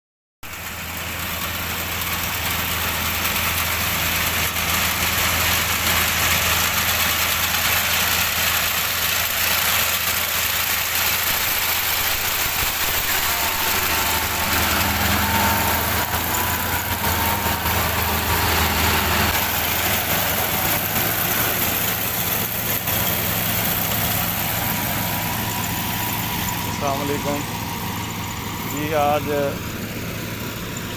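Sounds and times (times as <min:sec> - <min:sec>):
harvester engine running: 0:00.4 - 0:30.9.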